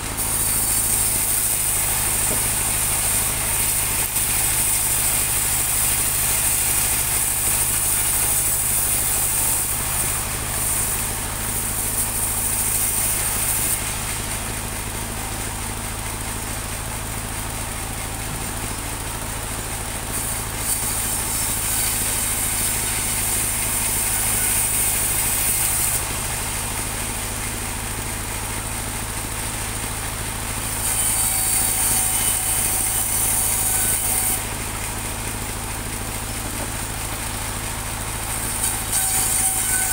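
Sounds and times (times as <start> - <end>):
sawmill running: 0.0 - 39.9.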